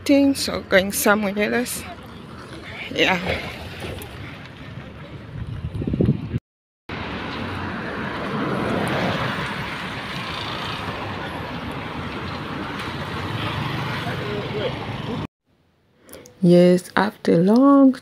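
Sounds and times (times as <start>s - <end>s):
road traffic noise: 0.0s - 6.3s, 6.9s - 15.3s.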